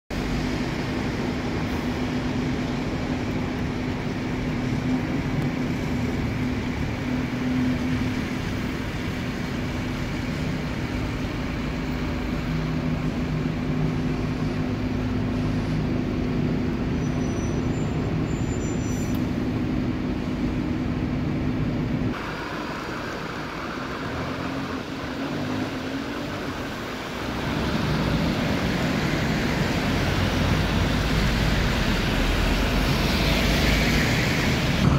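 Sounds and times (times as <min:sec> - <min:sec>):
bus engines running: 0:00.1 - 0:34.9
tyres hissing on wet road: 0:00.1 - 0:34.9.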